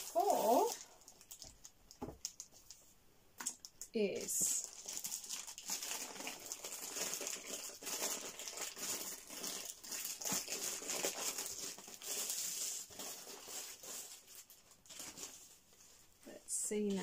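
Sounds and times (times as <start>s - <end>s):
plastic packaging crinkling: 0.0s - 16.1s.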